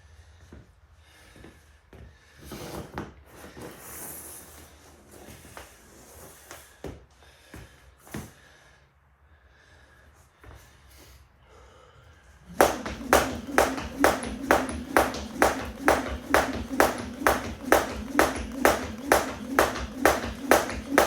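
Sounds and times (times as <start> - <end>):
person breathing hard: 0.0 - 2.6, 6.4 - 21.0.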